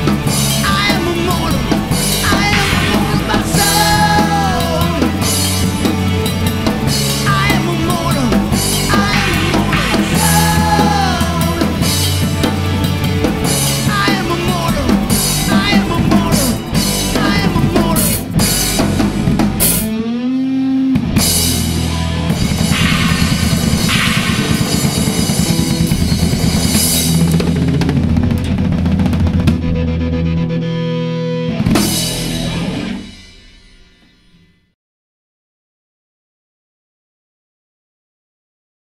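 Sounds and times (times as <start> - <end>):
drum kit: 0.0 - 20.2, 21.0 - 30.3, 31.5 - 34.4
bass guitar: 0.0 - 34.5
electric guitar: 0.0 - 34.5.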